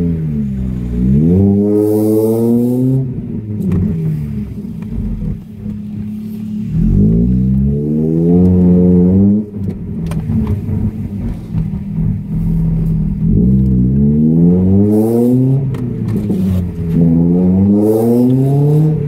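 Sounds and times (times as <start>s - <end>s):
car engine revving: 0.0s - 19.0s
exhaust crackles: 0.0s - 19.0s.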